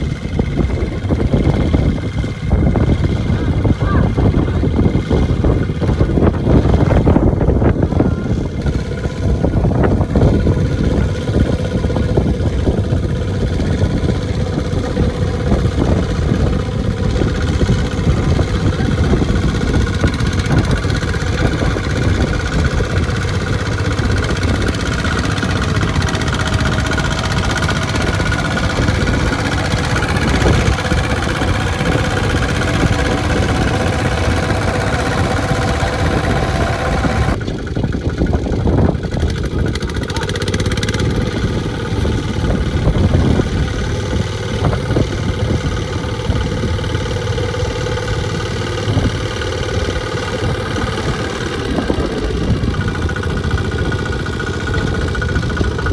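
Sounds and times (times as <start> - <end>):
tractor engine chugging: 0.0 - 55.9.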